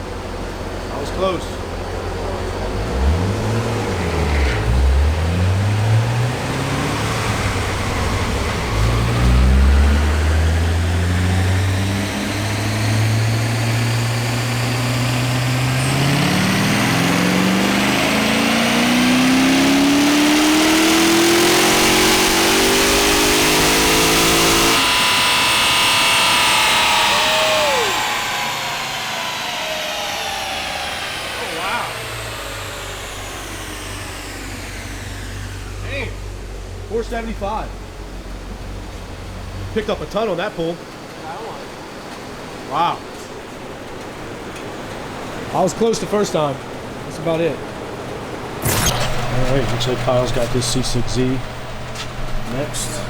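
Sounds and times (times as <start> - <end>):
car engine revving on a dyno: 0.0 - 53.0.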